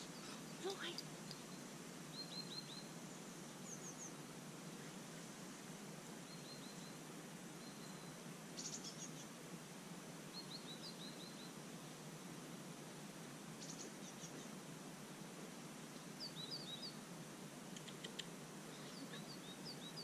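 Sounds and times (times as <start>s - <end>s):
small birds chirping: 0.0s - 5.4s, 6.1s - 9.4s, 10.2s - 12.1s, 13.5s - 14.8s, 15.8s - 20.0s
faint outdoor background noise: 0.0s - 20.0s.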